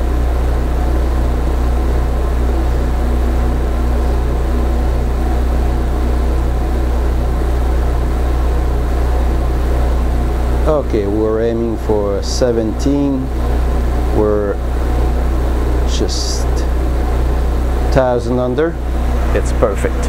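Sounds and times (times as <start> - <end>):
low machine drone: 0.0 - 20.0.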